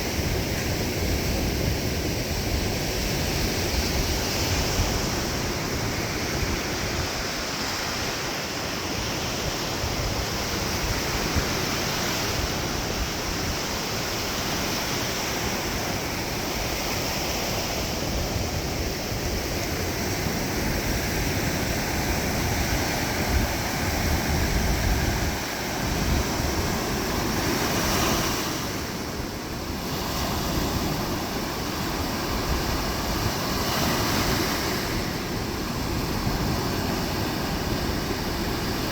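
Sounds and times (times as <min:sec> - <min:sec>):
surf breaking on beach: 0:00.0 - 0:38.9
wind rumble on microphone: 0:00.0 - 0:38.9.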